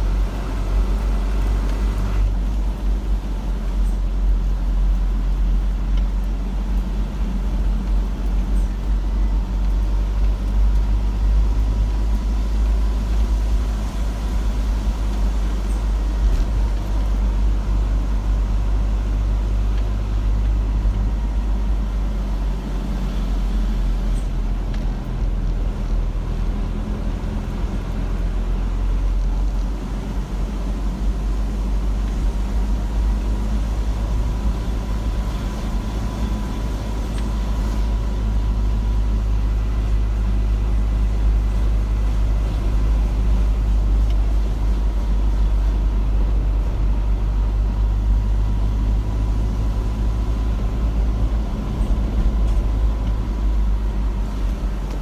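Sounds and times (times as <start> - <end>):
car driving on road interior: 0.0 - 55.0.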